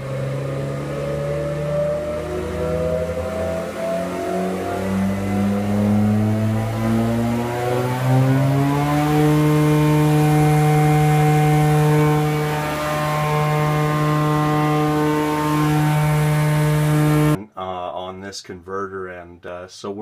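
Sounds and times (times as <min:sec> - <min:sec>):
planer motor winding up: 0:00.0 - 0:17.4.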